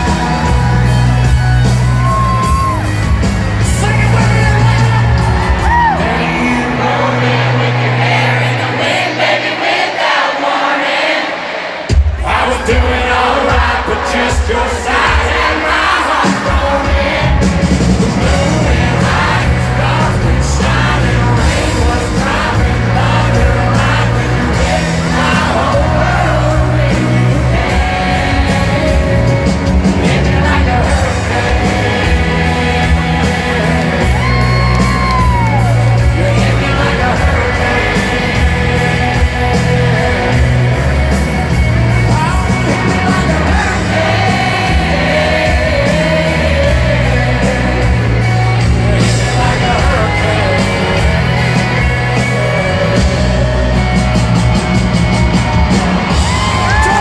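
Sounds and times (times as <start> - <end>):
live country band with male vocal: 0.0 - 9.4, 11.9 - 57.0
crowd yelling and whooping: 0.0 - 11.3, 11.9 - 57.0.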